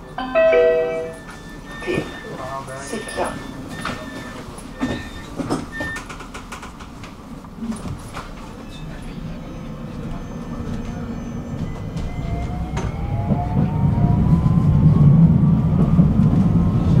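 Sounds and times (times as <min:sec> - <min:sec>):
tram rumble: 0:00.0 - 0:17.0.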